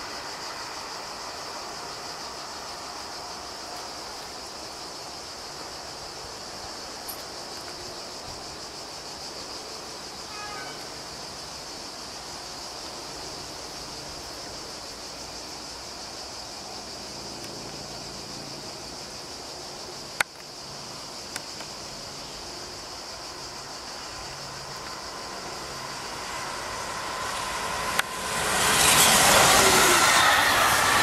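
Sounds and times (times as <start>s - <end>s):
cicadas droning: 0.0s - 31.0s.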